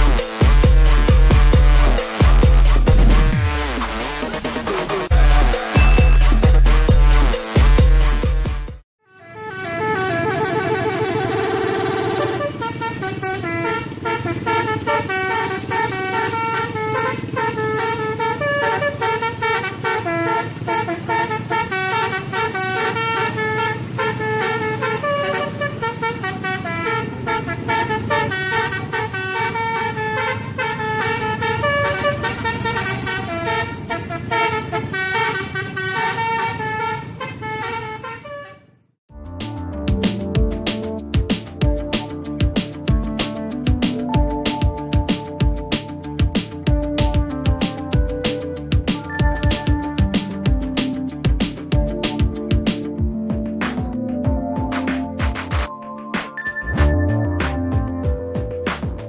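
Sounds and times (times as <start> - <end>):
multi-tone bus horn tune: 0.0 - 38.9, 40.8 - 53.6, 56.4 - 58.6.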